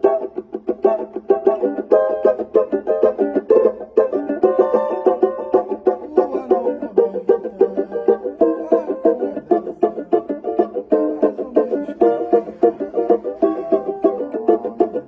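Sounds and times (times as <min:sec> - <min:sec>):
banjo picking: 0:00.0 - 0:15.0.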